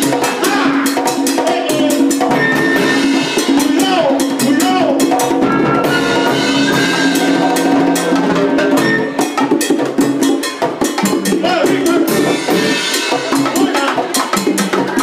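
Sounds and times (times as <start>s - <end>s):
live salsa band playing: 0.0s - 15.0s.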